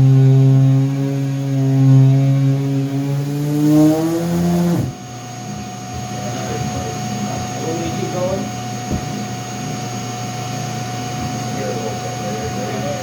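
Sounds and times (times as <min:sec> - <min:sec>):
power tool motor running: 0:00.0 - 0:13.0.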